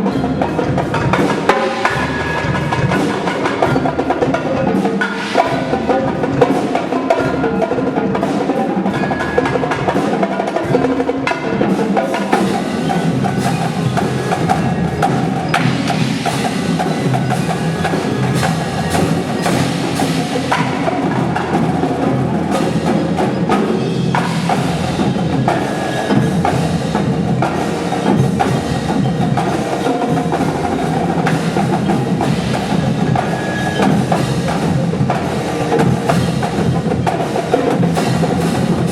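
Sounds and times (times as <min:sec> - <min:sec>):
sharp drum strikes: 0:00.0 - 0:38.9.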